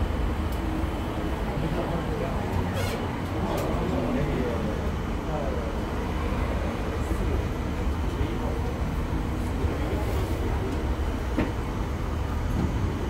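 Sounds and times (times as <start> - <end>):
cable car cabin rumble: 0.0 - 13.0.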